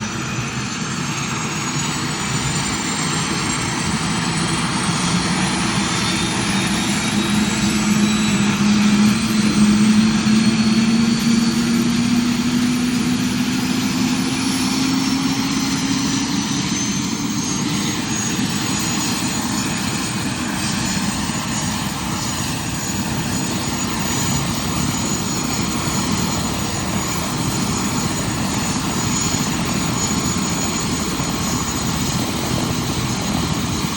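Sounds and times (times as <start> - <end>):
helicopter turbine engines spooling up: 0.0 - 33.9.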